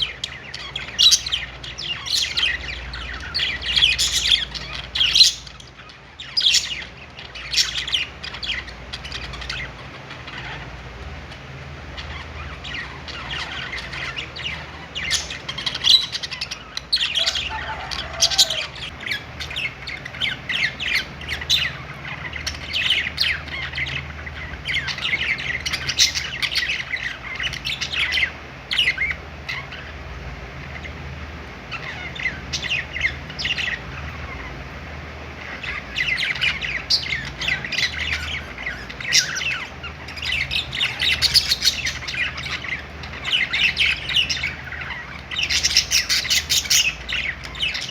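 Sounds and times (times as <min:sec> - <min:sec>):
budgerigars chirping: 0:00.0 - 0:47.9
faint low hum: 0:00.0 - 0:47.9.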